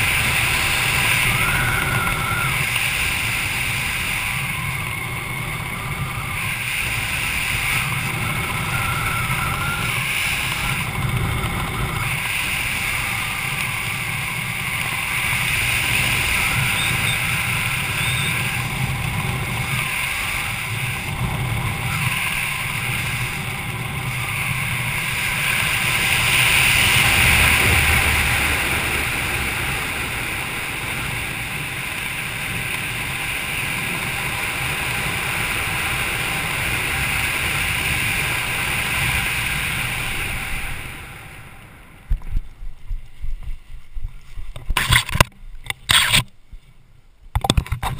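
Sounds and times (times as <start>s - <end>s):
wind rushing over microphone: 0.0s - 46.6s.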